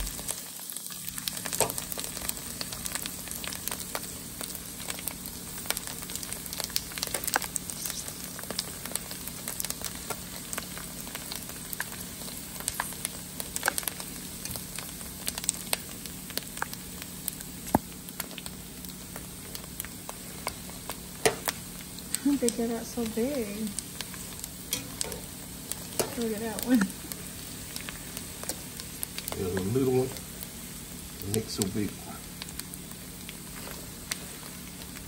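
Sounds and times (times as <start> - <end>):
pork skin deep-frying in oil: 0.0 - 35.0
sharp pops and crackles: 0.0 - 35.0.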